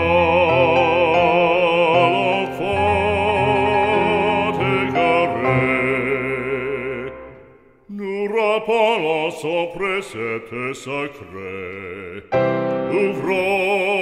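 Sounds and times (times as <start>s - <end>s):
hymn sung with vibrato: 0.0s - 14.0s.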